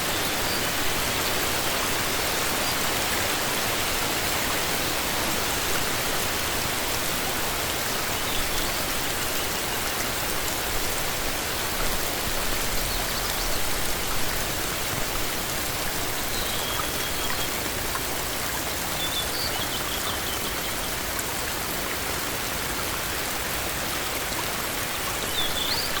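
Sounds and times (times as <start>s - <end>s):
heavy rain on foliage: 0.0s - 26.0s.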